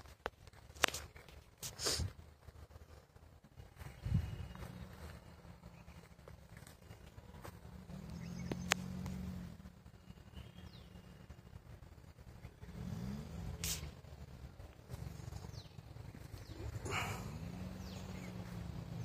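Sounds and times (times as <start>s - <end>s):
faint vehicle engine running: 0.0s - 19.0s
birds chirping: 2.6s - 19.0s.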